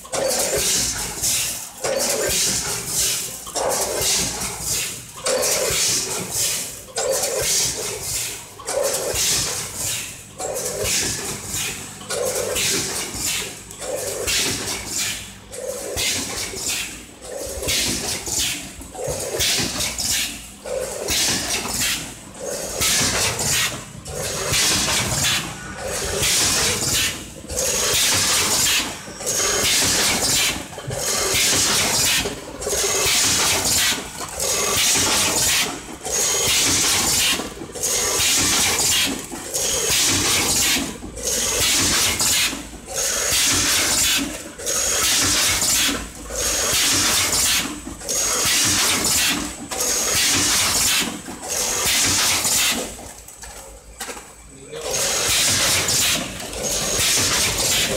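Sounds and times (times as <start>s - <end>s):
packing machine hissing rush: 0.5s - 53.0s, 54.6s - 57.9s.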